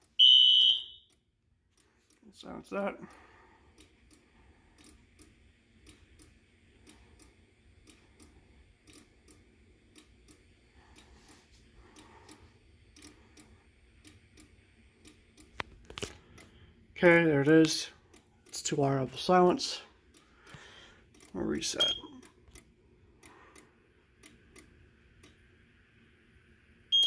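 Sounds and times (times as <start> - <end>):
faint irregular ticks and clicks: 0.0 - 25.5.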